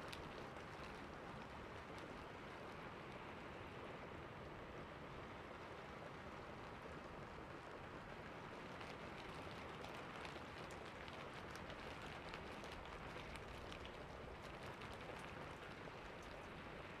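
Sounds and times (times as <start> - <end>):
rain pattering on window glass: 0.0 - 17.0.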